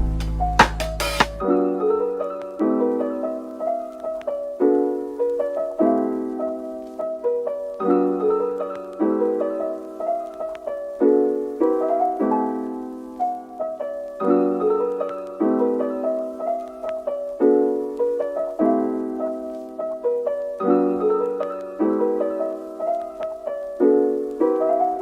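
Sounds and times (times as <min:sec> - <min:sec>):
soft piano chords: 0:00.0 - 0:25.0.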